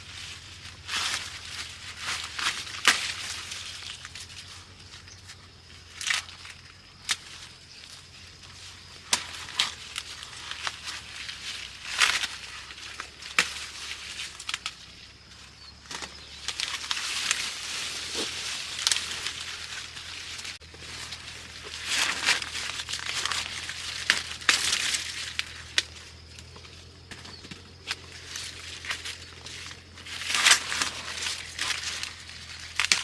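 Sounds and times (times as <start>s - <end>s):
dry corn leaves rustling: 0.0s - 33.0s.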